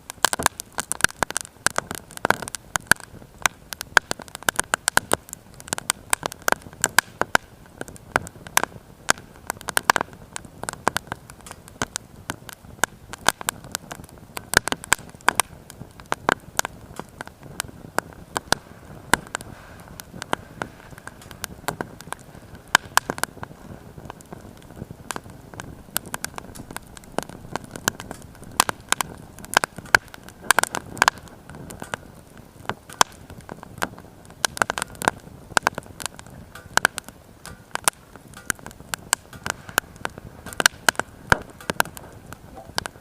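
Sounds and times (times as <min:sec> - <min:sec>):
firewood crackling in stove: 0:00.0 - 0:43.0.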